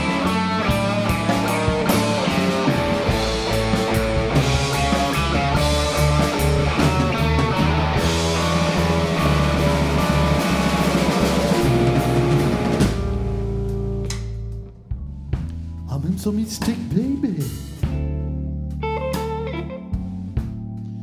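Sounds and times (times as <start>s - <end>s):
electric guitar: 0.0s - 14.8s, 16.6s - 21.0s
bass: 0.0s - 21.0s
drum kit beat: 0.0s - 21.0s
keyboard: 0.0s - 21.0s.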